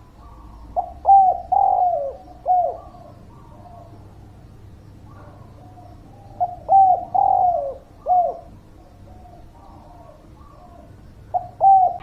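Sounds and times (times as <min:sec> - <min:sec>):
dove cooing: 0:00.0 - 0:04.0, 0:05.1 - 0:12.0
faint doves cooing: 0:00.0 - 0:12.0.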